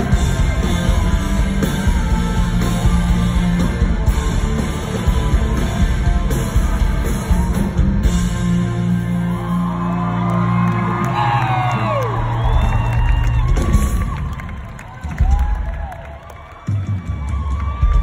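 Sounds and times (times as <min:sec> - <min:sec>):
live pop-punk band: 0:00.0 - 0:16.0.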